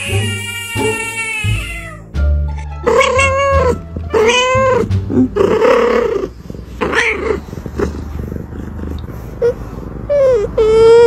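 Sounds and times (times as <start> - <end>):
cat meowing: 0.0 - 2.1, 2.8 - 11.0.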